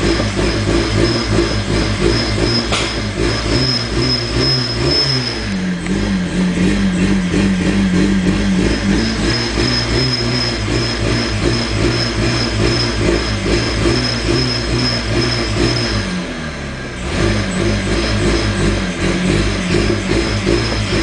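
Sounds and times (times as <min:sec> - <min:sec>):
car engine running: 0:00.0 - 0:21.0
supercharger whine: 0:00.0 - 0:21.0.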